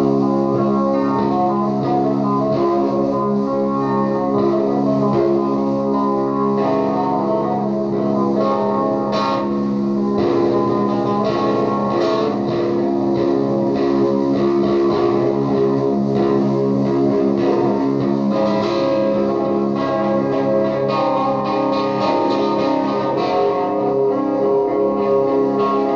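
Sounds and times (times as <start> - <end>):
electric guitar drone: 0.0 - 25.9.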